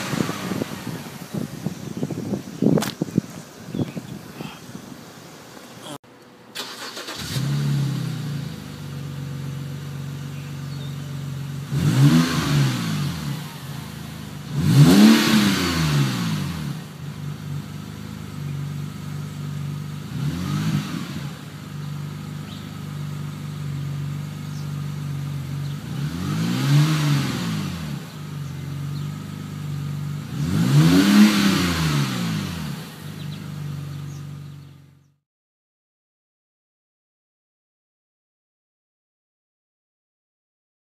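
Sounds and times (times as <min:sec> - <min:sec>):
car engine idling and revving: 0:00.0 - 0:03.6, 0:05.1 - 0:35.2.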